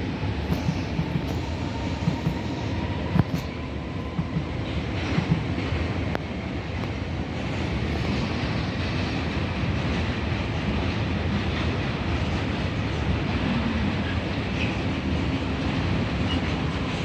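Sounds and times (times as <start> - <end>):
train rumbling along tracks: 0.0 - 17.0.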